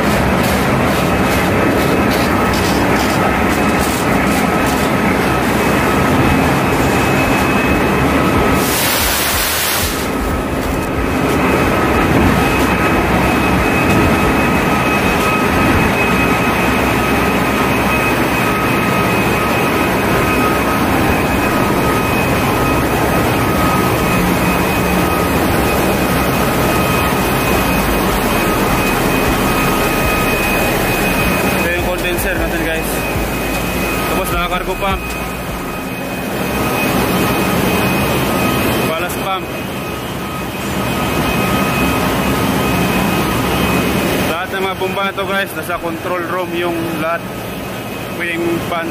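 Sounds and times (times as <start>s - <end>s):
engine-room machinery running: 0.0s - 48.9s
high whine: 0.0s - 48.9s.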